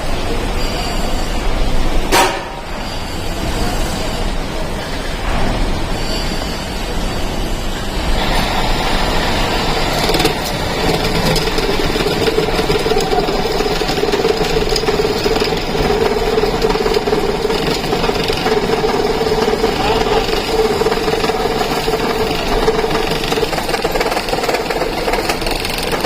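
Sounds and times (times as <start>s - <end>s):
workshop machinery humming: 0.0s - 26.0s.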